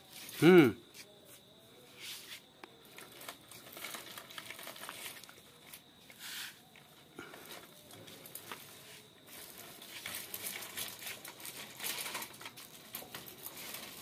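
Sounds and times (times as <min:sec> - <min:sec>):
plastic wheels rolling on concrete: 0:02.0 - 0:14.0.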